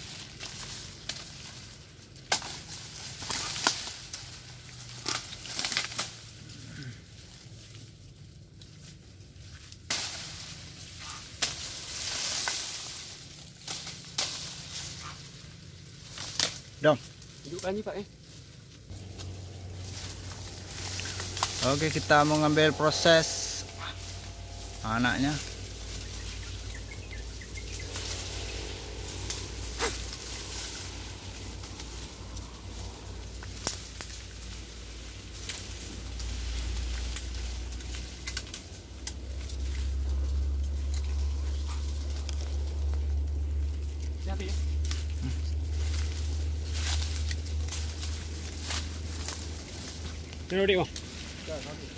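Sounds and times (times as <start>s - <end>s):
dry leaves rustling and crackling: 0.0s - 51.9s
steady low rumble: 0.0s - 51.9s
stalks snapping: 0.1s - 6.4s, 9.6s - 15.3s, 16.0s - 17.4s, 18.7s - 24.8s, 25.4s - 51.3s.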